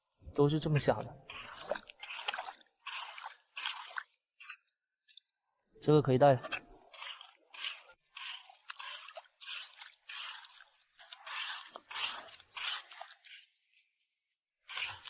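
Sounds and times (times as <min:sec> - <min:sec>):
digging tool scraping wet sand: 0:00.5 - 0:04.7, 0:06.4 - 0:15.0.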